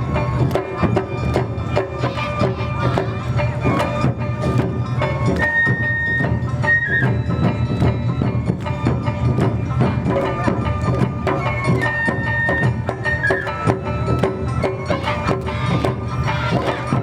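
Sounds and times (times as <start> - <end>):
brisk percussion strikes: 0.0 - 17.0.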